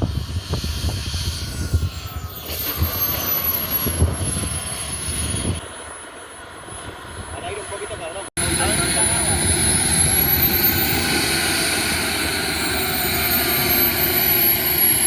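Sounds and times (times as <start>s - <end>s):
wind buffeting microphone: 0.0s - 5.8s, 6.5s - 15.0s
propeller airplane engine flying past: 0.0s - 15.0s.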